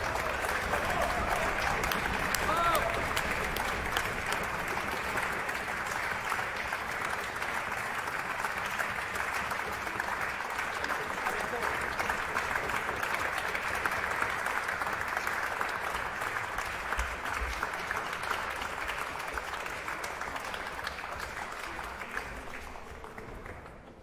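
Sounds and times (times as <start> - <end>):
applause: 0.0 - 24.0.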